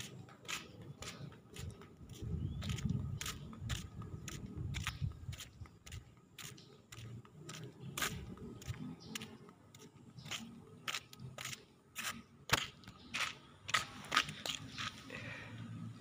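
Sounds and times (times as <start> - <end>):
footsteps on concrete: 0.0 - 15.1.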